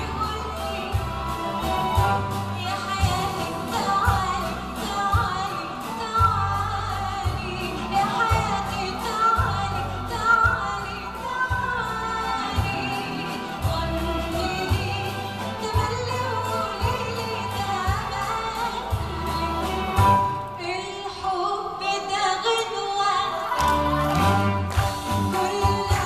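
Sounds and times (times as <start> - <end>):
soprano singing: 0.0 - 26.0
violins and plucked strings: 0.0 - 26.0.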